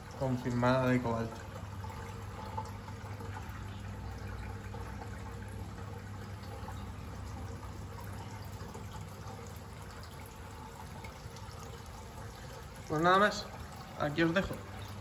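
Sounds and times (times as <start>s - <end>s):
aquarium water trickling: 0.0s - 15.0s.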